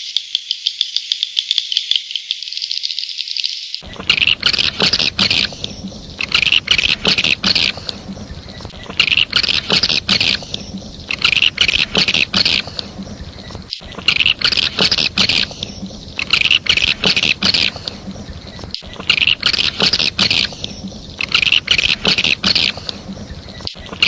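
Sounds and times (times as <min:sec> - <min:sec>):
sharp clicks: 0:03.8 - 0:24.0
swiftlet chattering chirps: 0:03.8 - 0:24.0.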